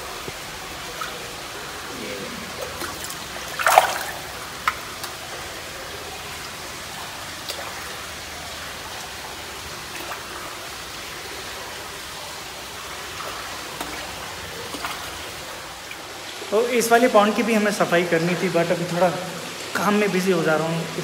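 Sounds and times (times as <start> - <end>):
faint water drips: 0.0 - 21.0
water trickling into a pond: 0.0 - 21.0.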